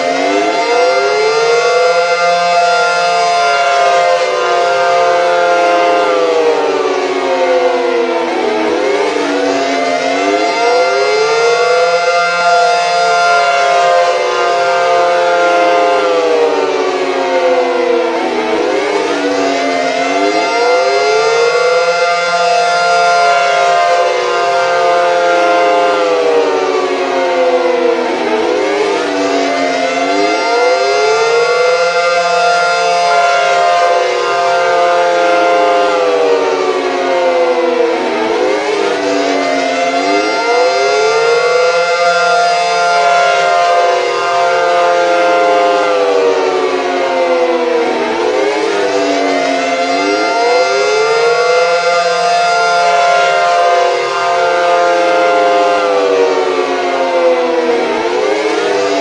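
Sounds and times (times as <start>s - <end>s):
civil defense sirens wailing: 0.0s - 59.0s.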